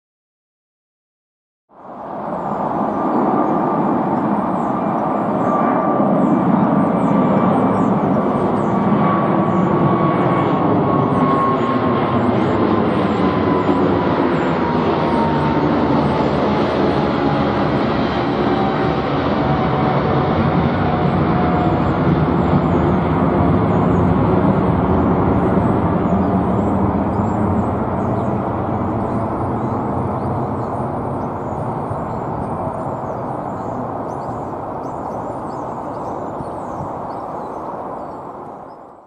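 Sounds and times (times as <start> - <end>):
jet engine rumble: 1.7 - 39.0.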